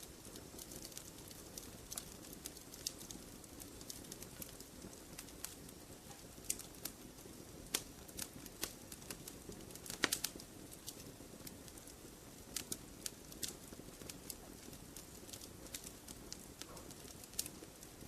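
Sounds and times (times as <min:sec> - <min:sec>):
fire hissing: 0:00.0 - 0:18.0
wood crackling and popping: 0:00.0 - 0:18.0.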